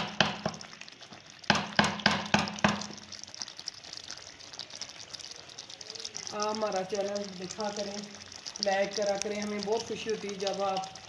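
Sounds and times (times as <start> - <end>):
faint sizzle of frying: 0.0 - 11.0.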